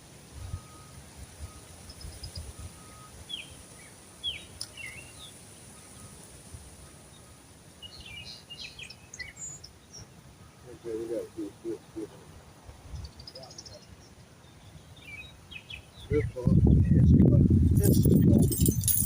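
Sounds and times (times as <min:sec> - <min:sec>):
birds chirping: 0:00.4 - 0:17.0, 0:17.7 - 0:19.0.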